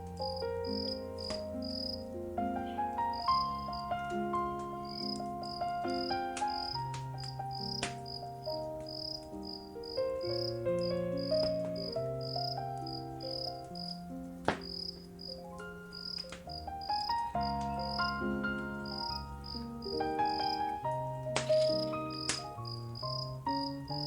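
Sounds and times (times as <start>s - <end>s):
cricket chirping: 0.0s - 24.0s
slow soft music: 0.0s - 24.0s
wood fire crackling: 0.0s - 24.0s.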